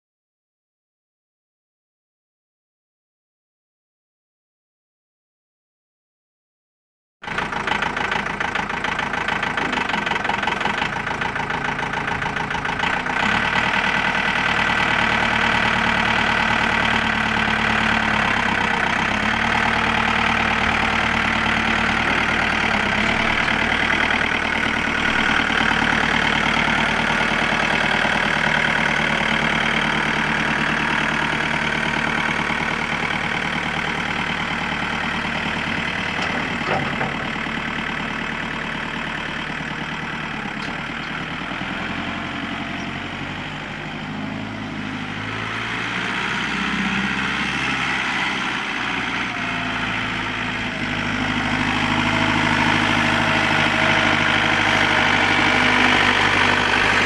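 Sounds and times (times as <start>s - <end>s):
tractor diesel engine running: 7.2s - 57.0s.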